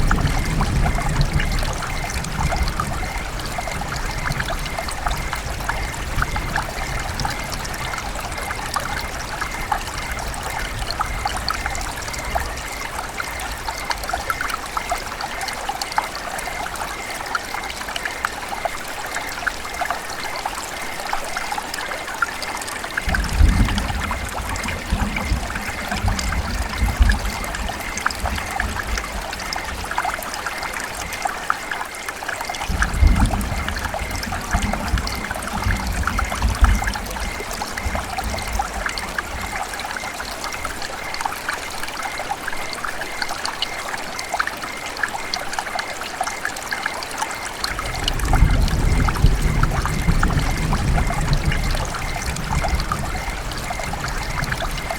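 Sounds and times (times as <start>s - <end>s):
river water babbling: 0.0s - 54.9s.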